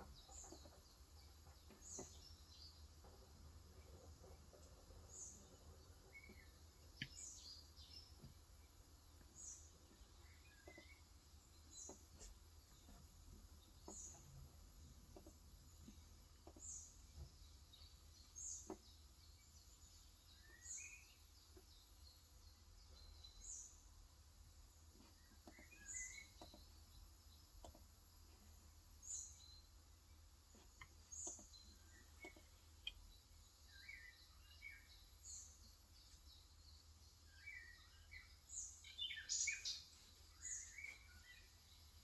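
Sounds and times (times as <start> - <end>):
faint bird chirps: 0.0 - 24.1, 24.7 - 42.0.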